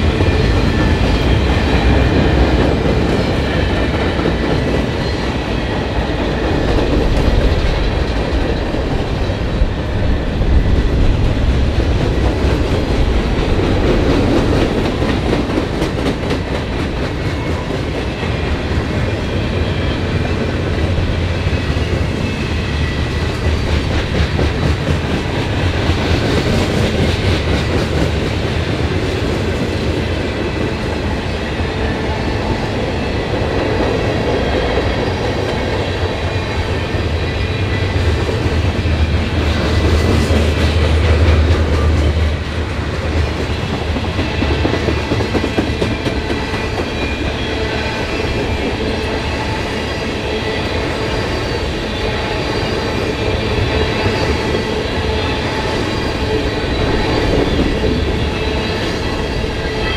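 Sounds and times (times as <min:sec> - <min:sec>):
freight train wheels clacking: 0:00.0 - 0:59.9
train low rumble: 0:00.0 - 0:59.9.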